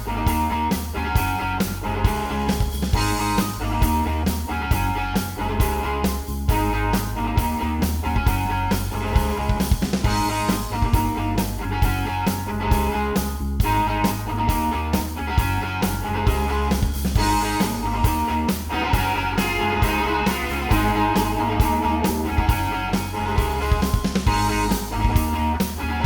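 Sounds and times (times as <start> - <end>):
rock music with electric guitar: 0.0 - 26.0.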